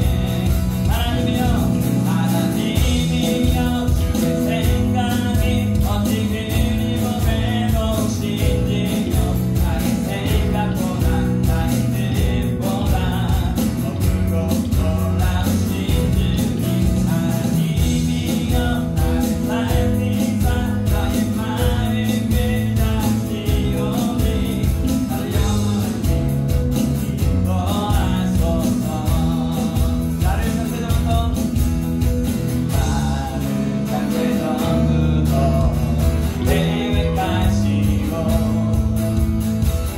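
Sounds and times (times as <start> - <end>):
person singing: 0.0 - 31.6, 32.6 - 39.5
electronic drums beat: 0.0 - 33.3
acoustic guitar: 0.0 - 39.9
bass guitar: 0.0 - 39.9
keyboard: 0.0 - 39.9.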